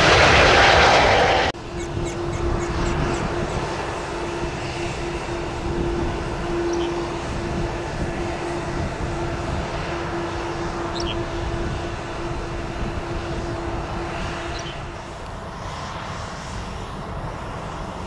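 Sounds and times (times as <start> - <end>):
jet engines rumbling: 0.0 - 18.0
steady engine whine: 0.0 - 18.0.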